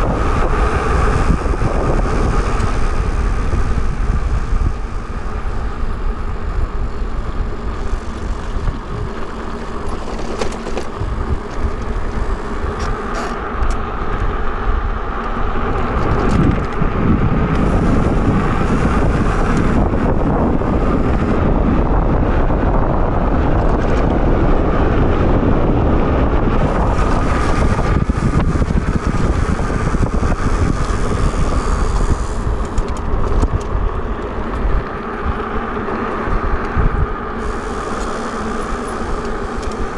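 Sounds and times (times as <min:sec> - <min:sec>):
road noise: 0:00.0 - 0:39.9
steady hum: 0:00.0 - 0:39.9
wind rushing over microphone: 0:00.0 - 0:39.9.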